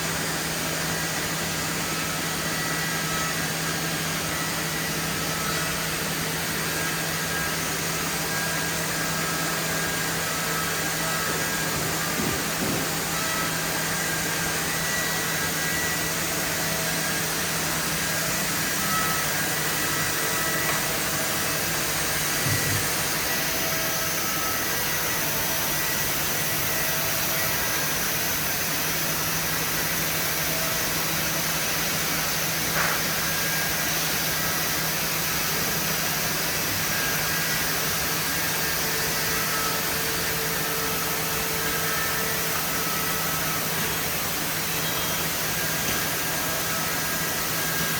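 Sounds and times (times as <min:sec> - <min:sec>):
woodworking machine hissing and humming: 0:00.0 - 0:47.9.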